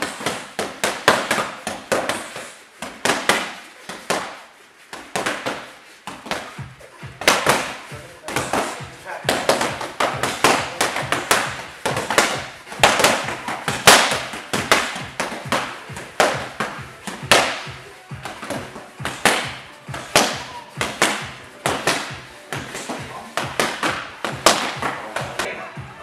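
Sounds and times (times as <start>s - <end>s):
boxing gloves striking mitts: 0.0s - 25.5s.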